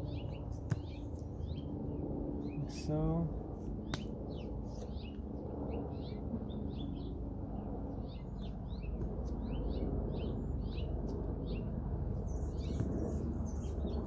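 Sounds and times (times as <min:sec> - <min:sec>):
low background rumble: 0:00.0 - 0:14.0
small birds chirping: 0:00.0 - 0:14.0.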